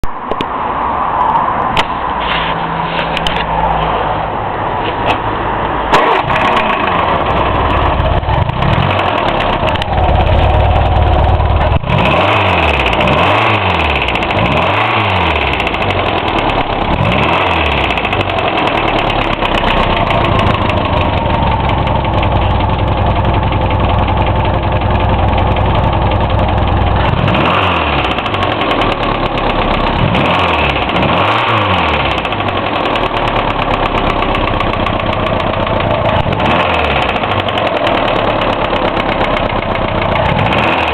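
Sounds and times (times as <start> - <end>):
car engine idling and revving: 0.0 - 40.9
engine knocking: 6.0 - 40.9.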